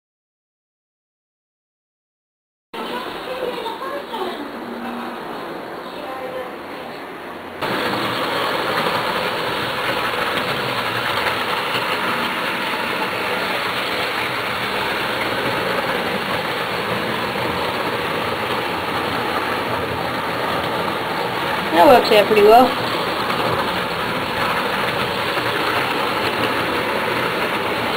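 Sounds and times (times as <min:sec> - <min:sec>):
model trains whirring and rolling: 0:02.8 - 0:27.9.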